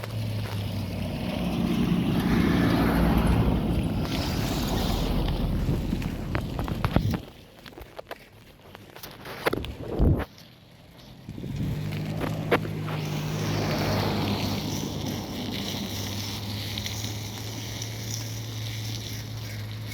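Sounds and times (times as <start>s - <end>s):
low engine hum: 0.0s - 19.9s.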